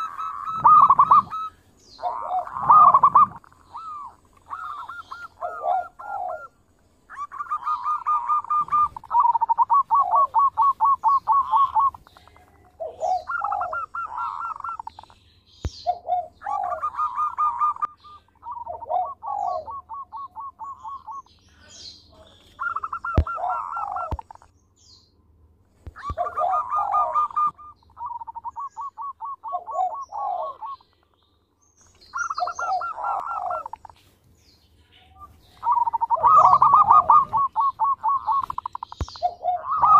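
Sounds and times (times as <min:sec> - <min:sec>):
dove cooing: 0:00.0 - 0:15.2, 0:15.8 - 0:21.3, 0:22.1 - 0:24.5, 0:25.9 - 0:31.0, 0:32.0 - 0:34.1, 0:35.2 - 0:39.9.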